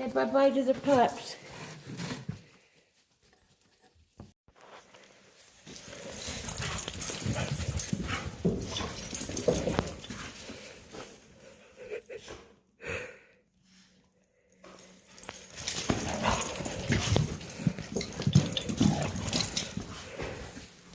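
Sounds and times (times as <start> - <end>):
dogs playing and moving: 0.0 - 12.8, 13.5 - 20.9.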